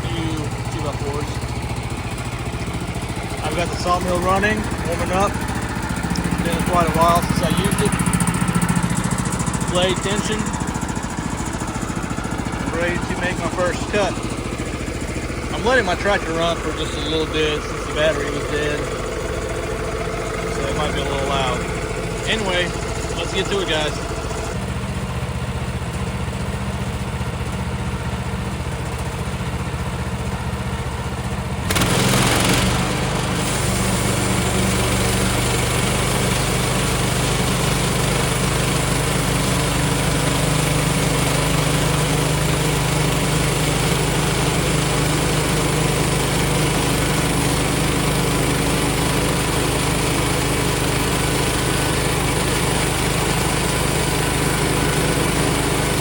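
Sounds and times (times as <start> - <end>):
band saw cutting log: 0.0 - 24.6, 31.6 - 56.0
small gas engine running: 0.0 - 56.0
tractor idling: 0.0 - 56.0.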